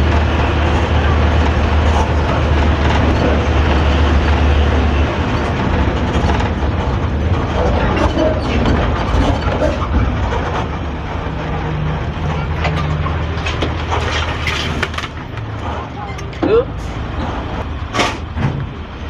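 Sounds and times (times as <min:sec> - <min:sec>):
bus body rattle: 0:00.0 - 0:19.0
bus diesel engine droning: 0:00.0 - 0:19.0
road noise: 0:00.0 - 0:19.0.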